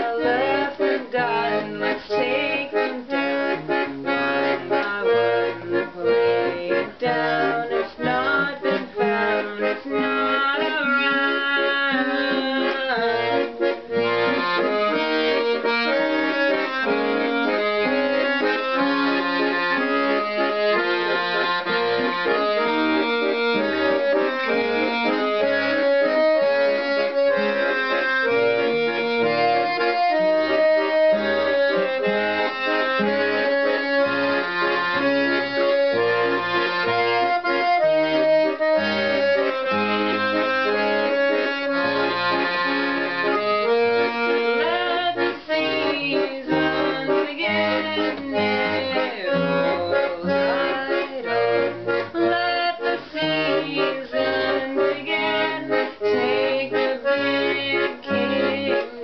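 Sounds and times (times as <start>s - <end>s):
piano accordion playing: 0.0s - 59.0s.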